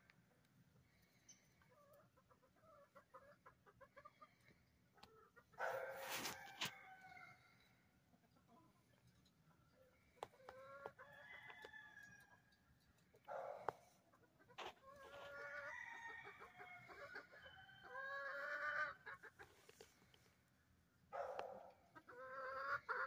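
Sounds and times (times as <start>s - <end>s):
chickens calling: 1.0s - 8.8s, 9.5s - 23.0s
chicken clucks: 1.3s - 20.2s, 21.2s - 23.0s.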